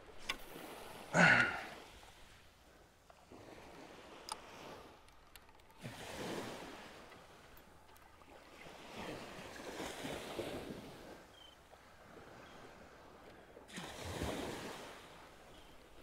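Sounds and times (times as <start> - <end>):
small waves washing on sand: 0.0 - 5.0, 5.8 - 16.0.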